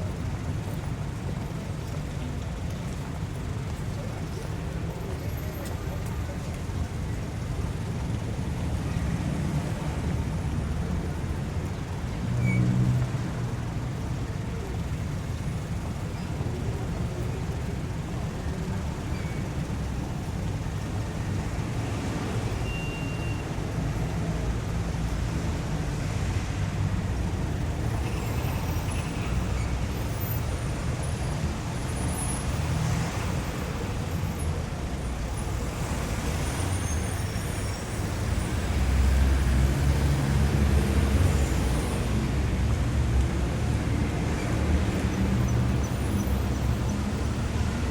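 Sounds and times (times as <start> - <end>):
traffic rumble: 0.0 - 47.9.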